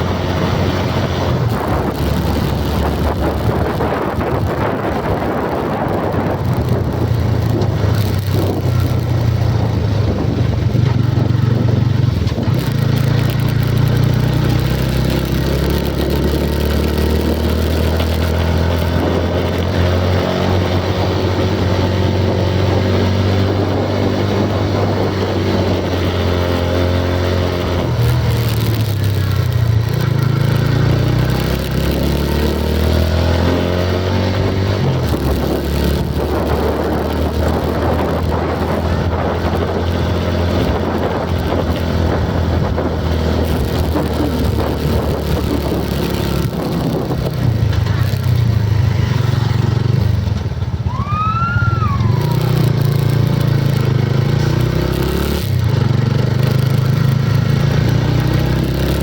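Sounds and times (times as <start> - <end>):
vehicle engine running: 0.0 - 33.3, 34.0 - 59.0.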